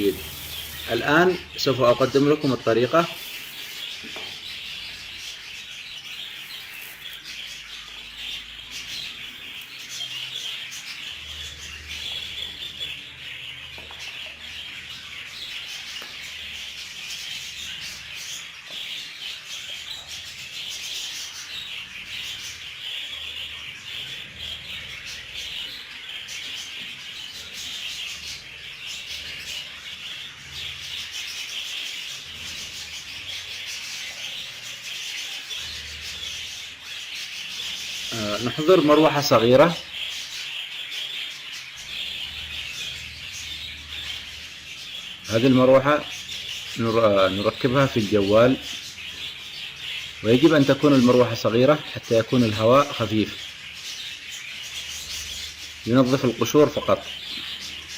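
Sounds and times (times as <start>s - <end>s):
budgerigars chattering and chirping: 0.0s - 57.9s.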